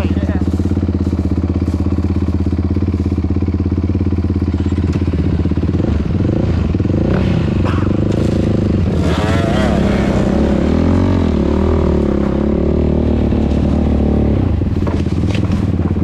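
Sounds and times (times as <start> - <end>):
quad engine idling and revving: 0.0 - 16.0.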